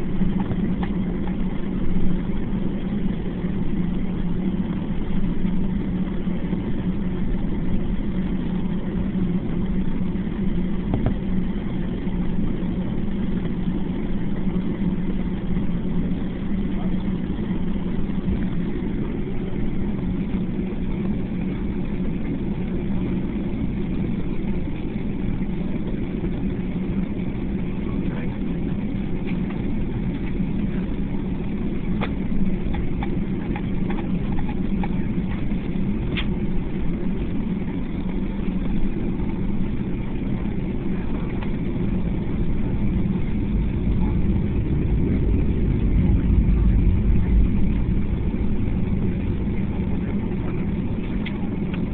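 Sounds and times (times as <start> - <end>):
jet engine hum in cabin: 0.0 - 51.9.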